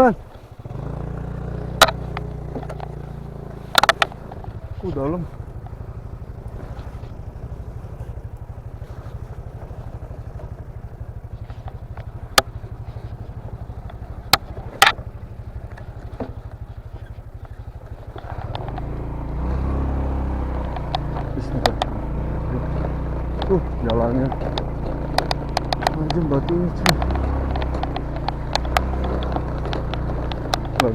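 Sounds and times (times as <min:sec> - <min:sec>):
motorcycle engine putter: 0:00.0 - 0:30.9
sharp clicks: 0:00.3 - 0:30.9.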